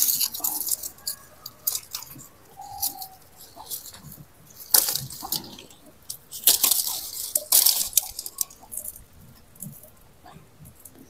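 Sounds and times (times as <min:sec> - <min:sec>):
leafy branches rustling: 0:00.0 - 0:11.0.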